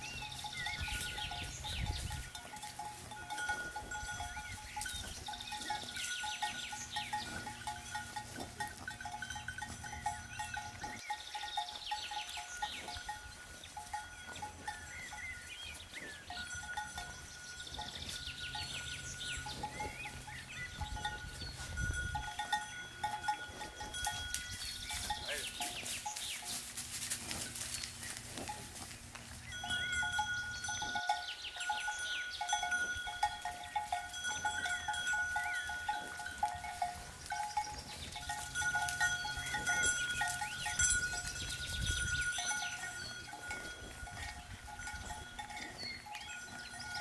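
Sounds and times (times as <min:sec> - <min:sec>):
cowbells clanking: 0:00.0 - 0:47.0.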